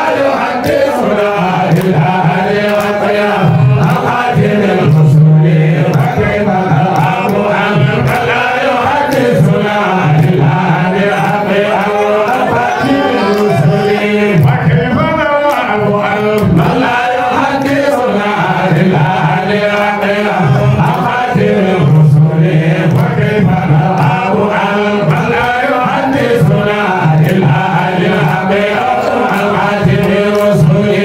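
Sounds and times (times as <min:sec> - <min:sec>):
man chanting: 0:01.0 - 0:31.0.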